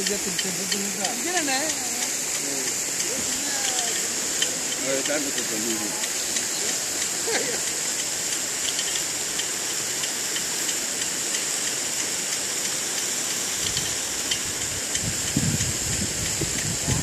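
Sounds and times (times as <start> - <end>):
sprinkler spray hissing: 0.0 - 17.0.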